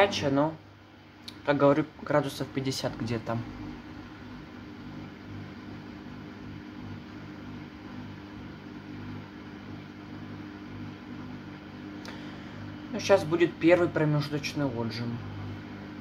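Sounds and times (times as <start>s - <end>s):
washing machine drain pump humming: 0.0s - 16.0s.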